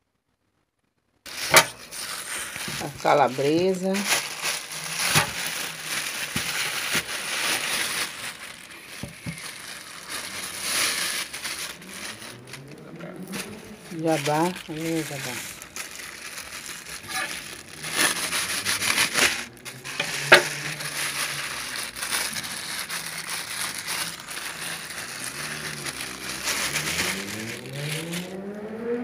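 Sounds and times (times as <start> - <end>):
plastic bags crinkling: 1.3 - 28.5.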